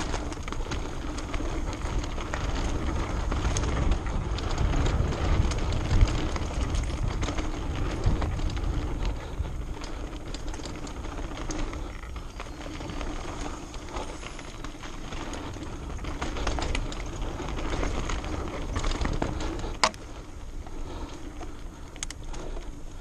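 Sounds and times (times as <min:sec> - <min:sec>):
bike chain rattling and clicking: 0:00.0 - 0:23.0
bike tyre rumble: 0:00.0 - 0:23.0
wind: 0:00.0 - 0:23.0.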